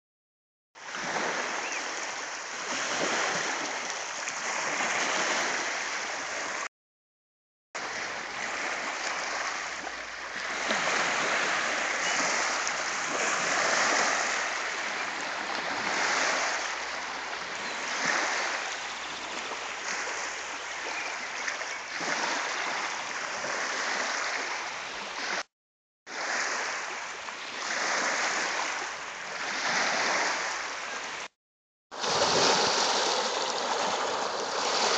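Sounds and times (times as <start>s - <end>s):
waves lapping on pebble shore: 0.9s - 6.6s, 7.8s - 25.5s, 26.1s - 30.8s, 32.0s - 34.9s.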